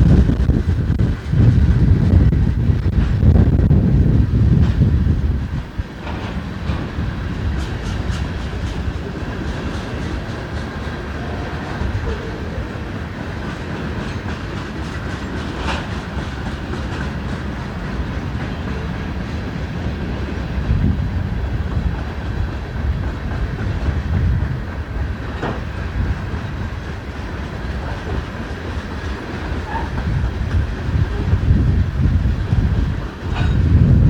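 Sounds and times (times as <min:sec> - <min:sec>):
rumble of wheels on track: 0:00.0 - 0:34.0.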